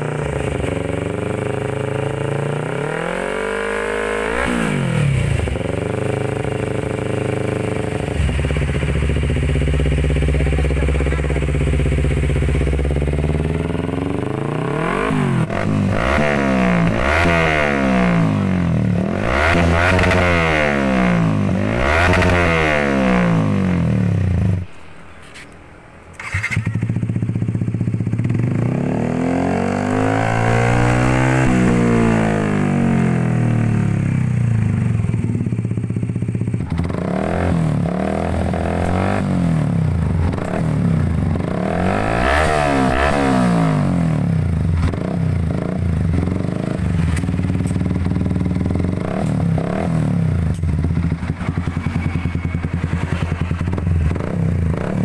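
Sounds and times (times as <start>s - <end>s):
motorcycle engines revving: 0.0s - 25.5s, 26.1s - 55.0s.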